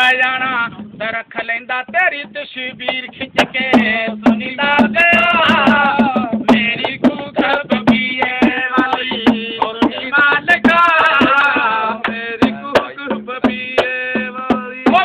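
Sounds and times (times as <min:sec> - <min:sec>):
man singing folk song: 0:00.0 - 0:15.0
hand drum: 0:01.8 - 0:15.0.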